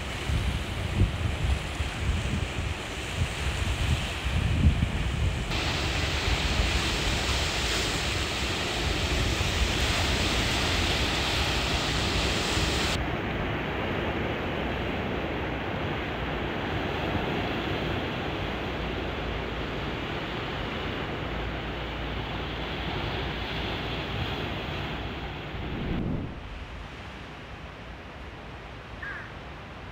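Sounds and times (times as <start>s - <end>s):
surf breaking on rocky shore: 0.0s - 27.4s.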